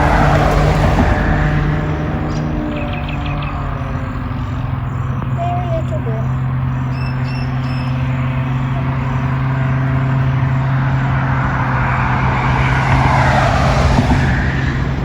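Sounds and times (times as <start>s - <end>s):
rushing noise: 0.0s - 5.5s, 6.3s - 15.0s
low motor hum: 0.0s - 15.0s.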